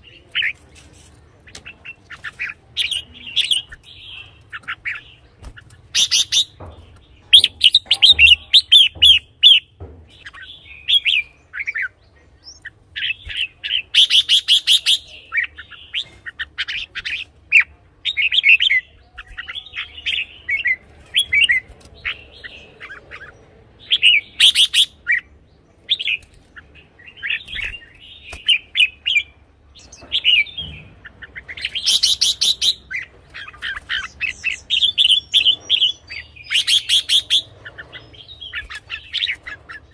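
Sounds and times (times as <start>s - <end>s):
bird singing warbling phrases: 1.3s - 39.9s.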